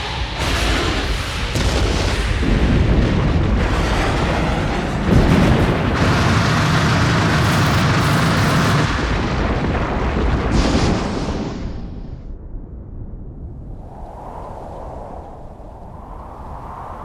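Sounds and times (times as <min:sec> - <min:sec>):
explosion with rumbling roar: 0:00.0 - 0:13.8.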